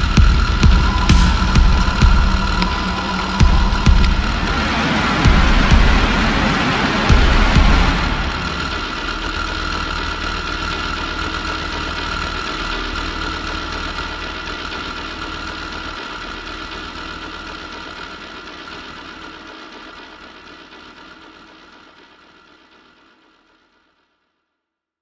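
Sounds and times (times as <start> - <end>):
electronic drone with hum and hiss: 0.0 - 22.5.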